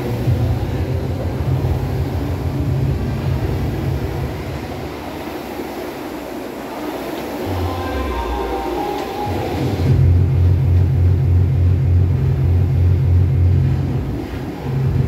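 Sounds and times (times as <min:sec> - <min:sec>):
rowing machine fan whirring: 0:00.0 - 0:15.0.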